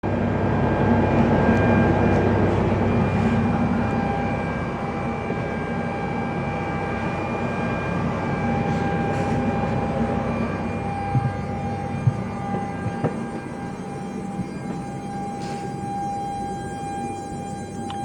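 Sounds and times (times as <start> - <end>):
low hum: 0.0 - 18.0
steady whining tones: 0.0 - 18.0.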